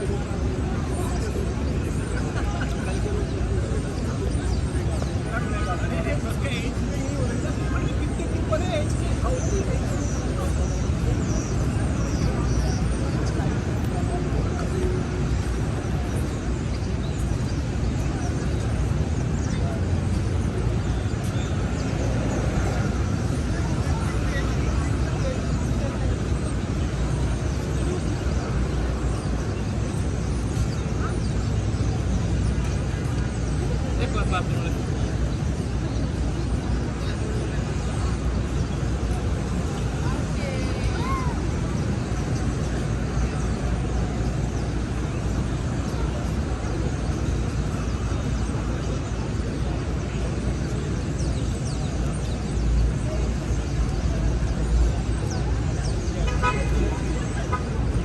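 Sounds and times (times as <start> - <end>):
traffic hum: 0.0 - 58.0.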